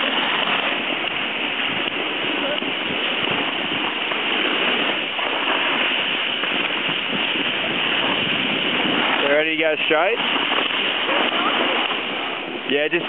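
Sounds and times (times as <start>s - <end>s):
sliding on packed snow: 0.0s - 13.0s
wind on microphone: 0.0s - 13.0s.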